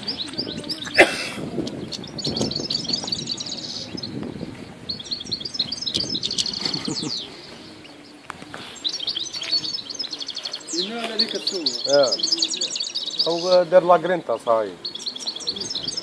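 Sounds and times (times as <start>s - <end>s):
bird twittering chirps: 0.0s - 16.0s.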